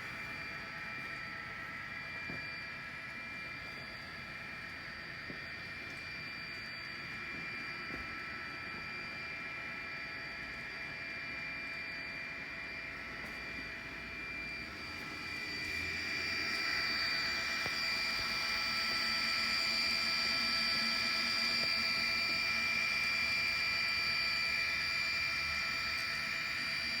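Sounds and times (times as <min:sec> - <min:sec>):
model train motor whine: 0:00.0 - 0:27.0.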